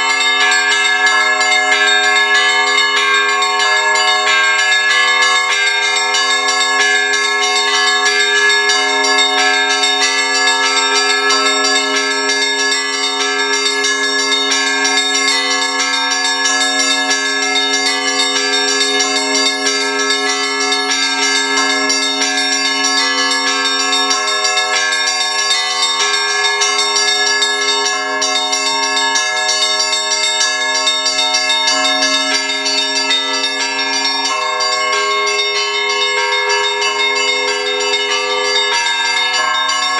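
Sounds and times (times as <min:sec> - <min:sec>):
church bells pealing: 0:00.0 - 0:39.9
low bell tone: 0:00.0 - 0:39.9.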